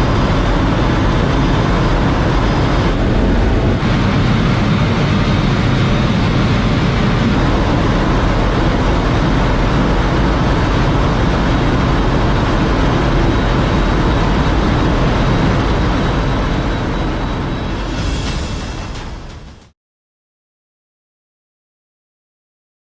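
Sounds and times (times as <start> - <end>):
road and wind noise: 0.0 - 18.7
faint high whine: 0.0 - 19.7.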